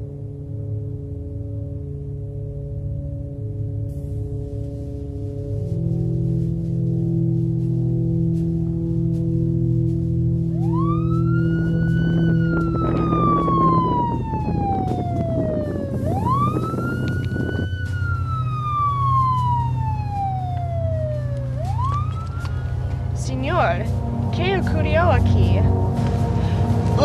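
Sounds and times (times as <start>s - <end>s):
steady low hum: 0.0s - 27.0s
police siren wailing: 5.3s - 27.0s.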